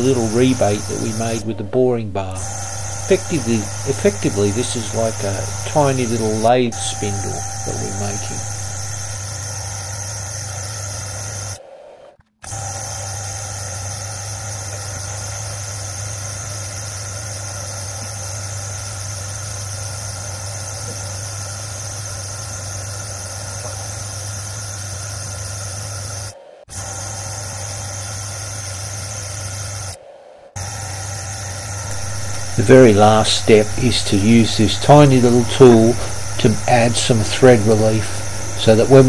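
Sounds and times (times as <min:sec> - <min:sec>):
lathe motor hum and whine: 0:00.0 - 0:20.9, 0:26.7 - 0:39.0.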